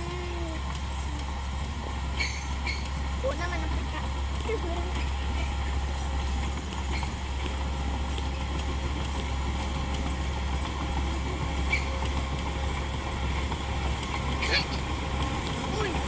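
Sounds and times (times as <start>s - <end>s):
bulldozer diesel engine rumbling: 0.0s - 16.0s.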